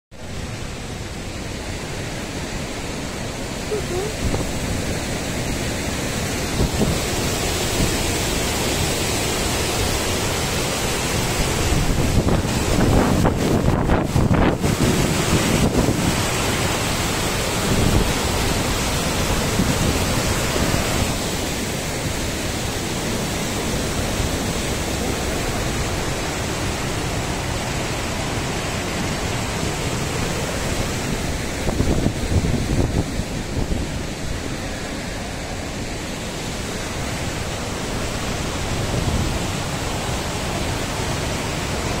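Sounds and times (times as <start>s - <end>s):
waterfall rushing onto rock: 0.2s - 42.0s.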